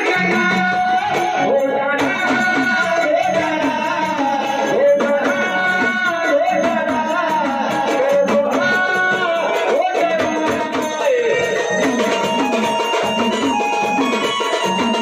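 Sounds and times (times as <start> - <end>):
hand drum beat: 0.0 - 15.0
person singing: 0.0 - 15.0.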